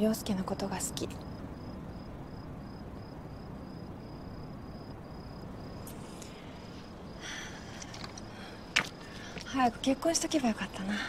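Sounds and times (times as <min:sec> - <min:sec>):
cricket chirping: 0:00.0 - 0:11.0
low background hum: 0:00.0 - 0:11.0.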